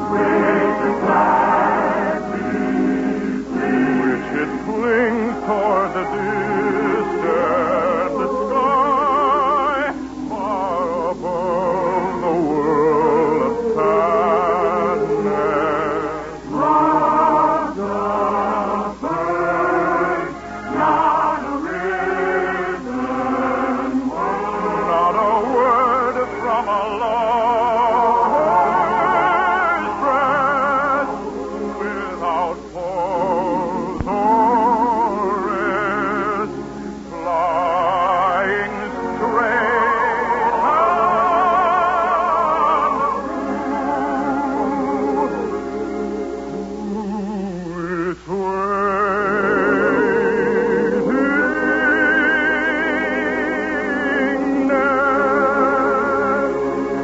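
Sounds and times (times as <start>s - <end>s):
musical accompaniment: 0.0s - 57.0s
operatic singing with vibrato: 0.0s - 57.0s.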